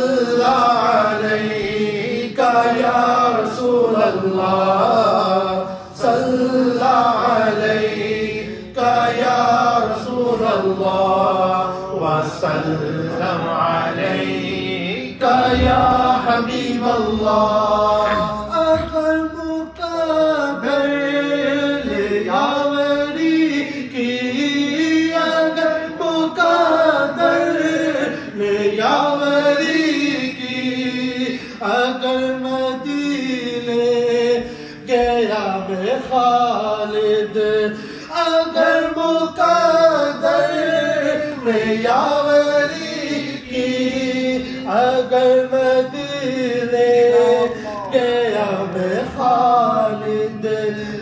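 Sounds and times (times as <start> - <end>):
man singing into a microphone: 0.0 - 7.2, 14.8 - 51.0.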